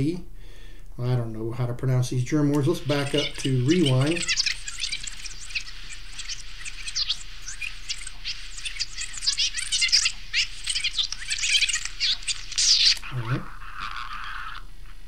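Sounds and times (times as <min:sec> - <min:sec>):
tape rewinding high-pitched chatter: 0:02.5 - 0:14.7.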